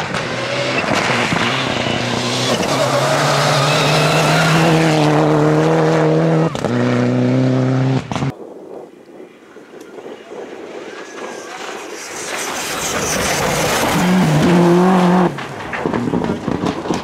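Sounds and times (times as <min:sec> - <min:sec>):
rally car engine revving: 0:00.0 - 0:08.3, 0:11.2 - 0:17.0.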